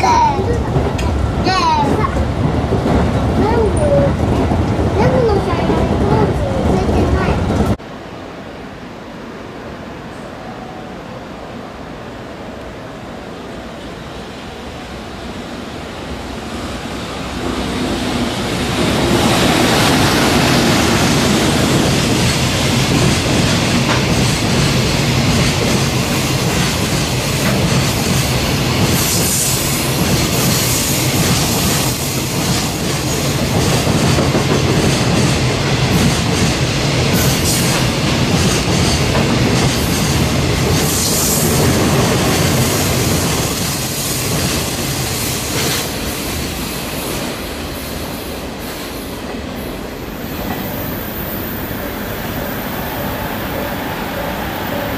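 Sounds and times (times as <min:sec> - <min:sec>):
freight train wheels rumbling: 0:00.0 - 0:08.0, 0:09.8 - 0:54.9.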